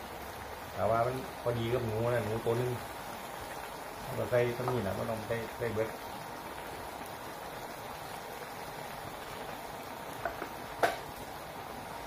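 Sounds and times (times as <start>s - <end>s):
broth simmering in a wok: 0.0s - 12.0s.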